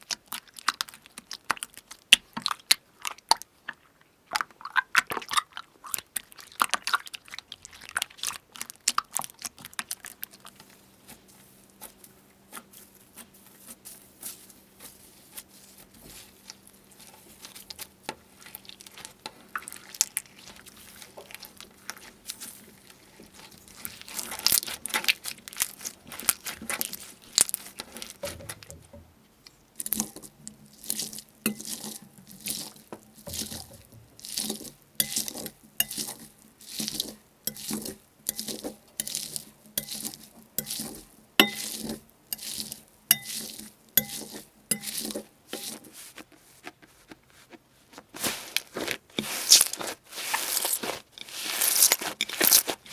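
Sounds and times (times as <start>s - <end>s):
wet slime squishes: 0.0s - 28.9s, 29.5s - 52.9s.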